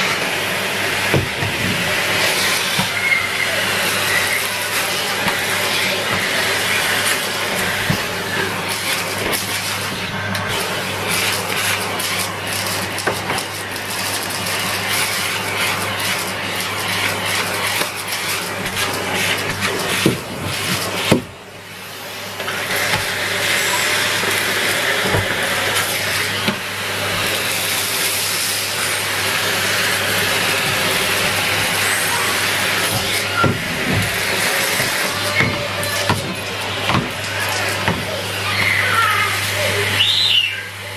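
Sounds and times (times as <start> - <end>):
vacuum cleaner humming: 0.0 - 40.9.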